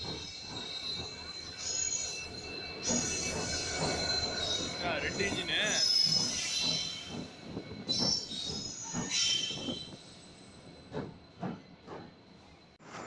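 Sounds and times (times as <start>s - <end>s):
train wheels squealing on rails: 0.0s - 13.0s.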